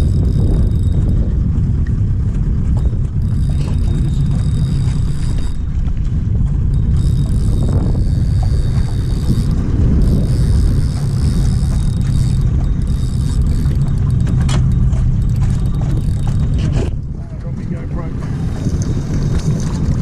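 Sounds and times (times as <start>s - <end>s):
high whirring: 0.0s - 17.1s
outboard motor running: 0.0s - 20.0s.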